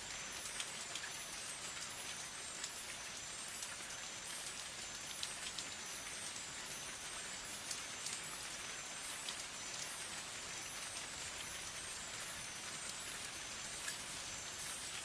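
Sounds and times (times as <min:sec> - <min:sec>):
raindrops clicking on surface: 0:00.0 - 0:15.0
steady rain hiss: 0:00.0 - 0:15.0.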